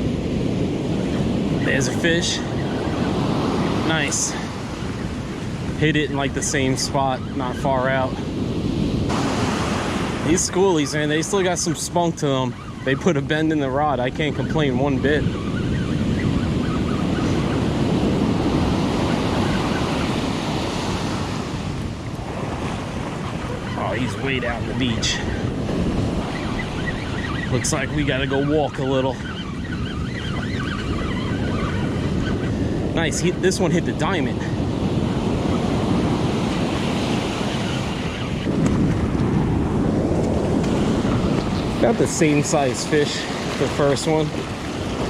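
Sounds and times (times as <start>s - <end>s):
ocean surf breaking: 0.0s - 45.0s
wind buffeting microphone: 0.0s - 45.0s.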